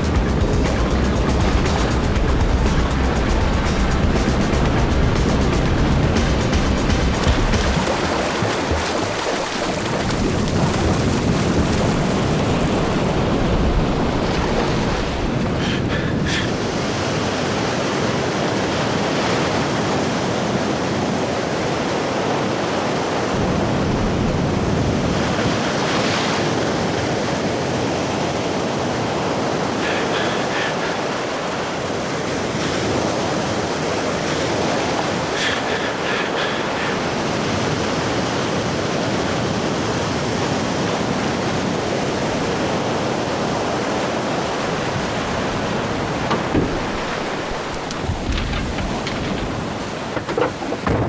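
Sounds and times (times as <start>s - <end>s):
ocean waves breaking: 0.0s - 51.0s.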